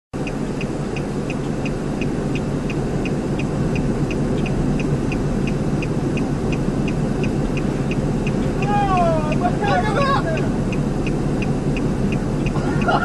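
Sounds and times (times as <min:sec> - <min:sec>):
high-pitched ticking: 0:00.2 - 0:13.0
vehicle rumbling: 0:00.2 - 0:13.0
wind: 0:00.2 - 0:13.0.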